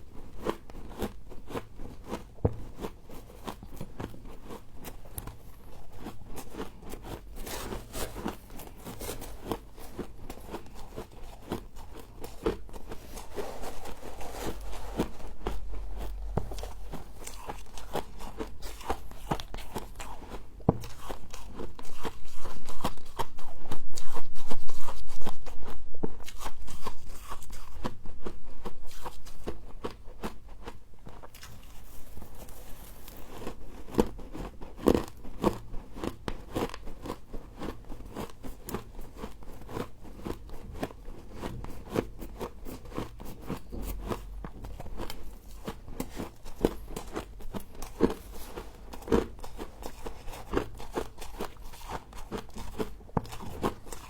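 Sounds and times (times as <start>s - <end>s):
frost being chewed crunching: 0.0s - 54.0s.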